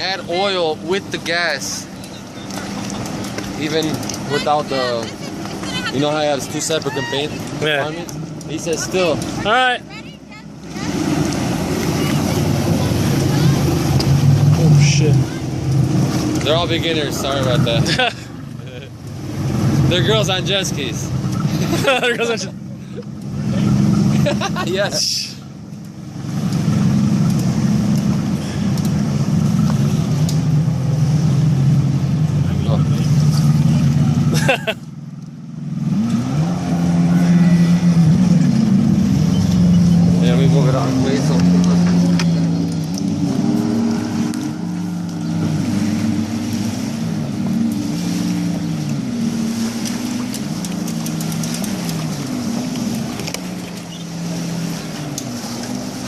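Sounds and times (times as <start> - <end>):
watercraft engine droning: 0.0 - 56.0.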